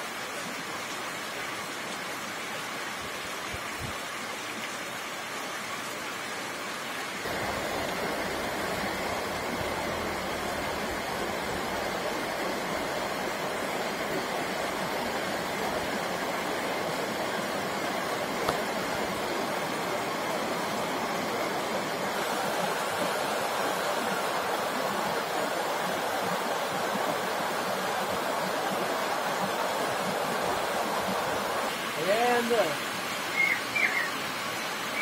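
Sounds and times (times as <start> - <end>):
heavy rain pouring: 6.8 - 35.0.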